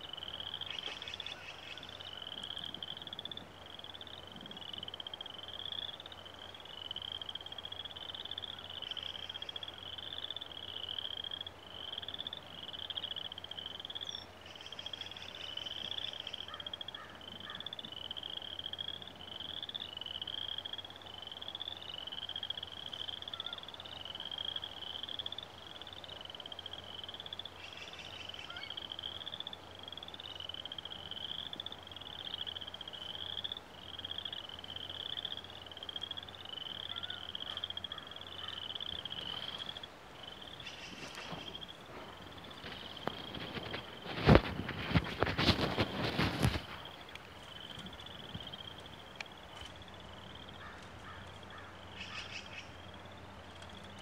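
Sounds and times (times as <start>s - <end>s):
frog chorus trilling: 0.0s - 54.0s.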